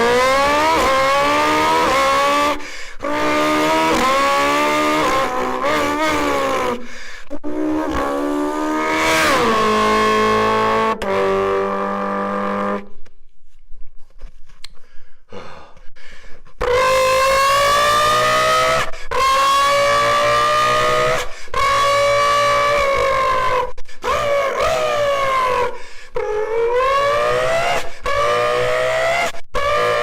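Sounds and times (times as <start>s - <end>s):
person imitating car engine: 0.0s - 12.9s, 16.6s - 30.0s.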